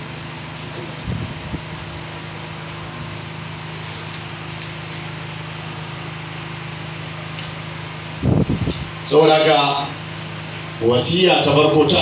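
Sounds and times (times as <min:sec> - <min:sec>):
low steady hum: 0:00.0 - 0:12.0
even hiss: 0:00.1 - 0:12.0.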